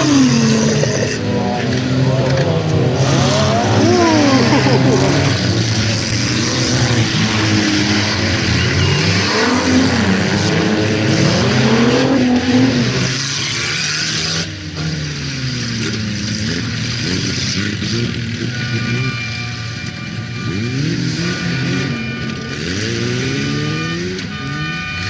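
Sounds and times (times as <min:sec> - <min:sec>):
race car engines revving: 0:00.0 - 0:25.0.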